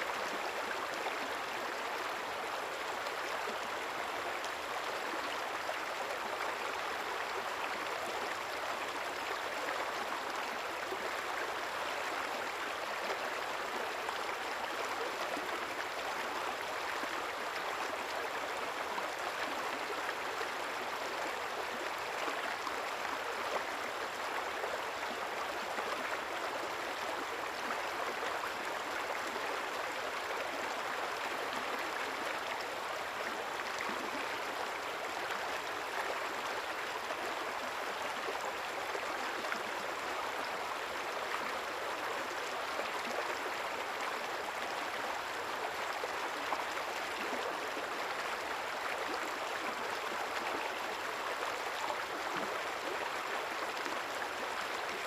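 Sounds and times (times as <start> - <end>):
river water flowing and gurgling: 0.0 - 55.0.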